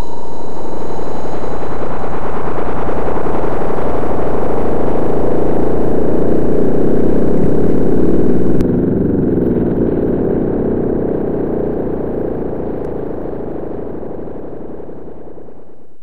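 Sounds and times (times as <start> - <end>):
dense engine-like rumble: 0.0 - 15.8.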